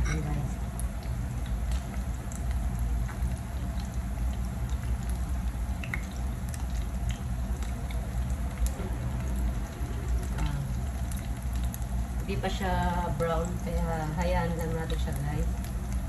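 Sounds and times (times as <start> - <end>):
low steady rumble: 0.0 - 16.0
patties sizzling in oil: 0.0 - 16.0.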